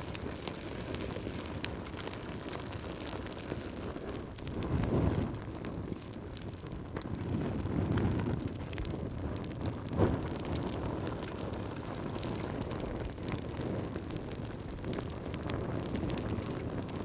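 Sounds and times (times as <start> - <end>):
fire crackling: 0.0 - 17.0
fire rumbling: 0.0 - 17.0.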